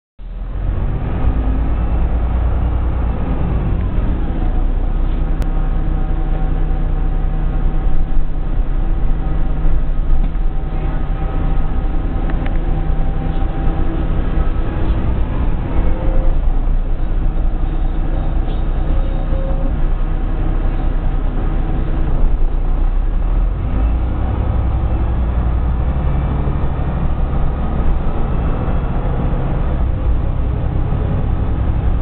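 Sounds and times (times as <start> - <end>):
bus engine rumble: 0.2 - 32.0.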